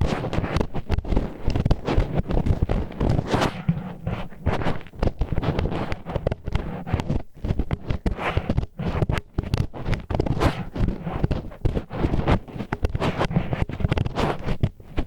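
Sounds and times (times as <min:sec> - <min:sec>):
chopsticks scraping microphone: 0:00.0 - 0:15.0.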